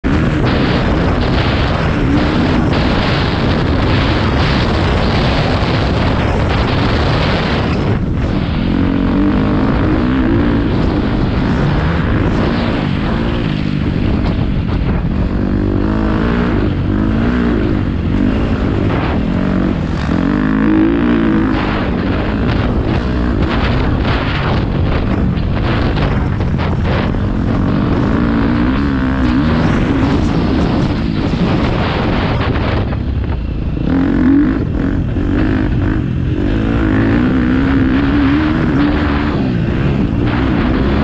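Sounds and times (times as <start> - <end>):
motocross bike engine revving: 0.0 - 41.0.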